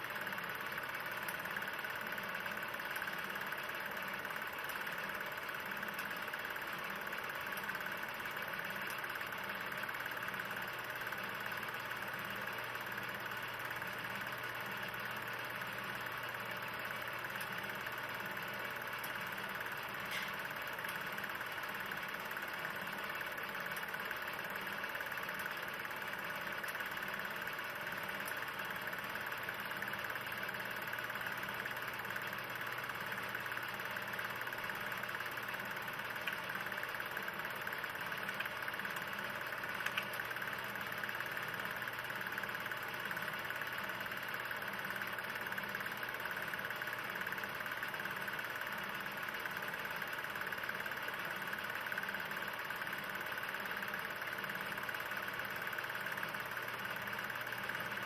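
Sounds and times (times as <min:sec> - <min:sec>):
faint projector clatter: 0:00.0 - 0:58.0
film projector whirring: 0:00.0 - 0:58.0.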